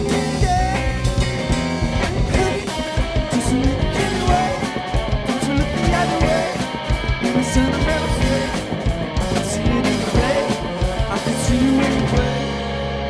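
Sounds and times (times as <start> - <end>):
punk rock band playing: 0.0 - 13.0.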